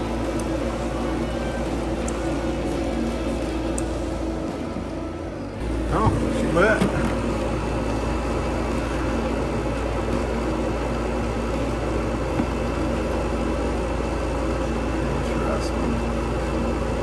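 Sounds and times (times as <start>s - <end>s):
gas flame rushing: 0.0s - 17.0s
motor hum: 0.0s - 17.0s.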